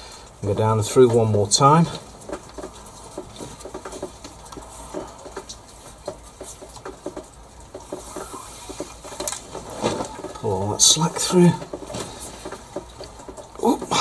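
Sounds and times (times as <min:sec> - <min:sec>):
cord scraping on wooden poles: 0:00.0 - 0:14.0.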